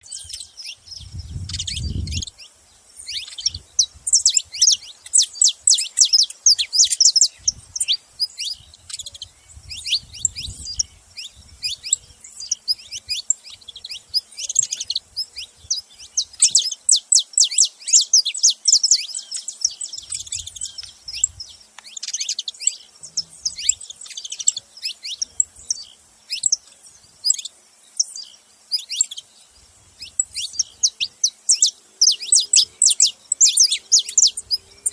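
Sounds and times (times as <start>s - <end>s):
finch chirping and singing: 0.0s - 34.9s.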